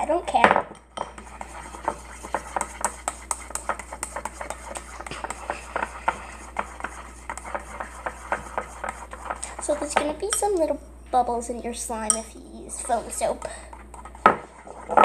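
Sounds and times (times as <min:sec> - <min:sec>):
stirrer scraping ceramic bowl: 0:00.3 - 0:15.0.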